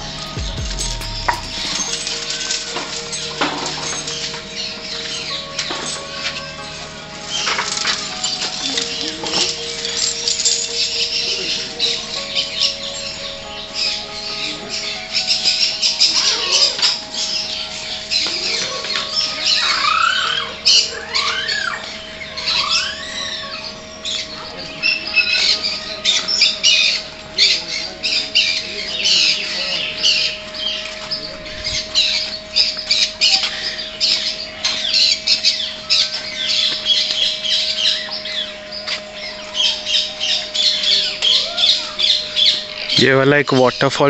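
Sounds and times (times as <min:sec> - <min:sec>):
arching bird calls: 0:00.0 - 0:44.0
birds chirping and squawking: 0:00.0 - 0:44.0.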